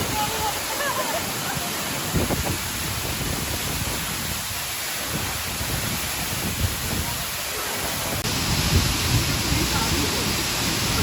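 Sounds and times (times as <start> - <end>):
heavily falling water: 0.0 - 11.0.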